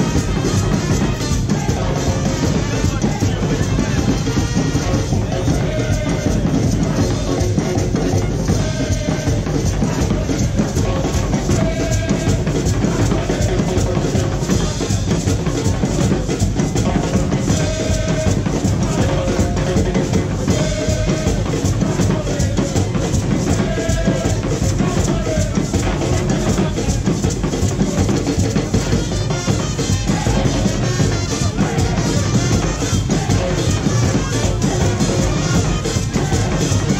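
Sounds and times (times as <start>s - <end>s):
carnival band music: 0.0s - 36.9s
heavy driving drums: 0.0s - 36.9s.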